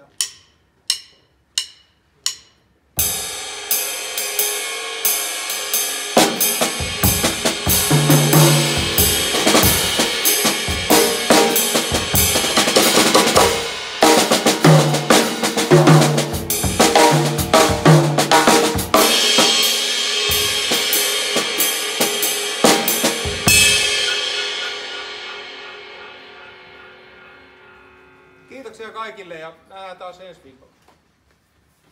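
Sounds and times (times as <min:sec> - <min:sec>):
drum kit groove: 0:00.0 - 0:28.5
cymbals ringing: 0:00.0 - 0:29.6.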